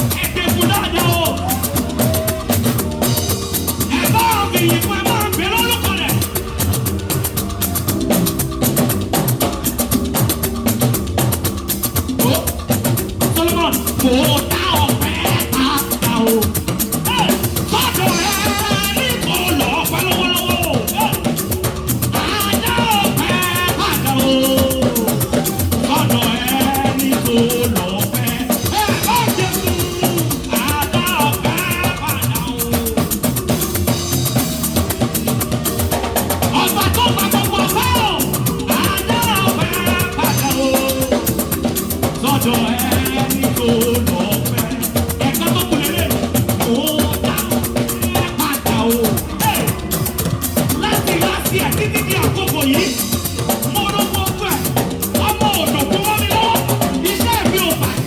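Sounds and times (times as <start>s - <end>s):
church praise music: 0.0s - 58.0s
drum kit beat: 0.0s - 58.0s
shaker rattles: 0.0s - 58.0s.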